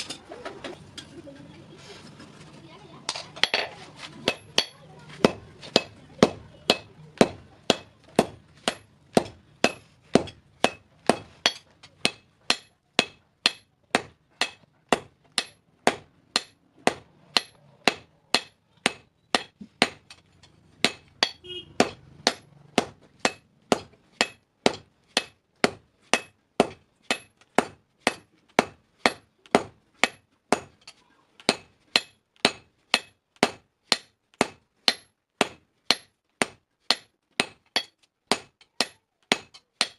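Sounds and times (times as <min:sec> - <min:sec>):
hammer striking blade on anvil: 0:04.3 - 0:39.9.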